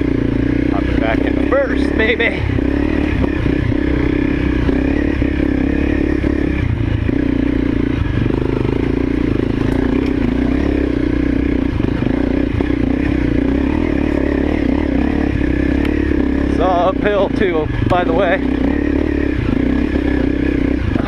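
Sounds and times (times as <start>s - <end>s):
motorcycle engine climbing: 0.0s - 21.0s.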